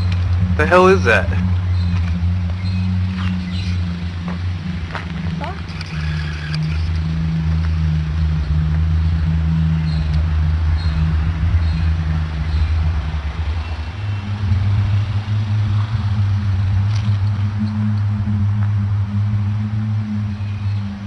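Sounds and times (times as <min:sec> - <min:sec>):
low droning groan: 0:00.0 - 0:21.0.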